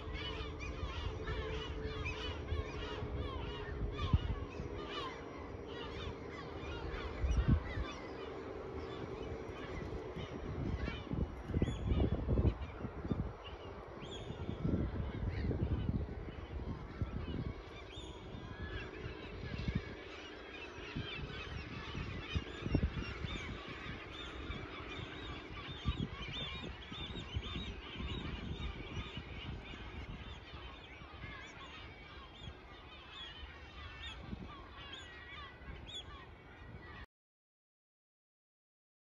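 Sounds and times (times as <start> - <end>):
flock of birds calling: 0.0 - 37.0.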